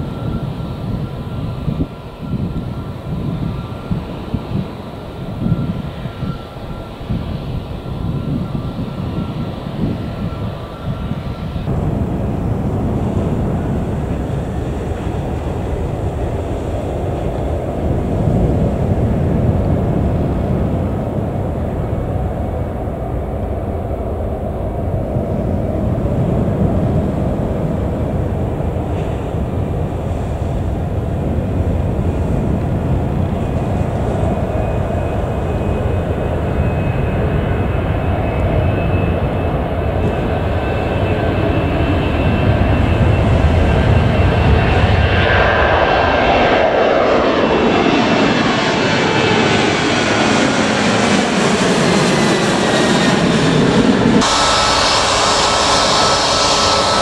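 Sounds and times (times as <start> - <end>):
airliner passing overhead: 0.0 - 57.0
jet engines rumbling at takeoff: 0.0 - 57.0.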